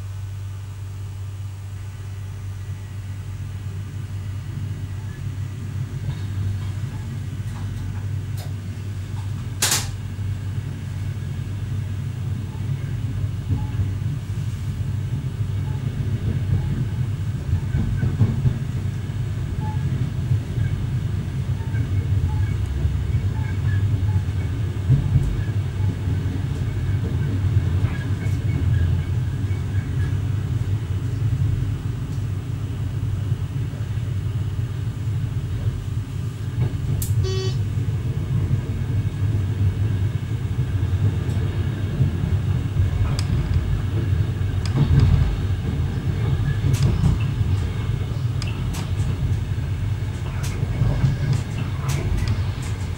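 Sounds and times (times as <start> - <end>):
train running rumble: 0.0 - 52.9.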